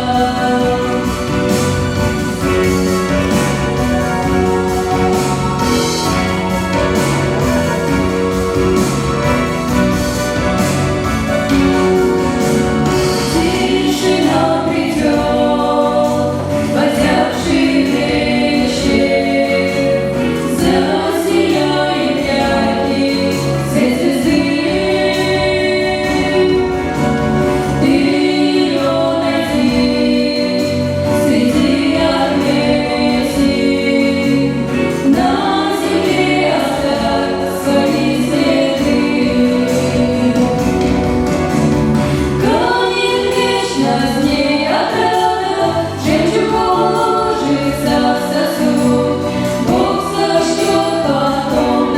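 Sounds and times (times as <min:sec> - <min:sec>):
group of voices singing: 0:00.0 - 0:51.9
instrumental accompaniment: 0:00.0 - 0:51.9.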